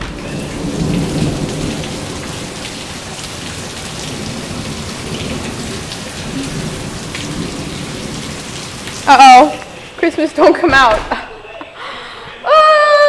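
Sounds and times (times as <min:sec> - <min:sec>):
water drips and splashes: 0:00.0 - 0:10.6
heavy rain on concrete: 0:00.0 - 0:10.9.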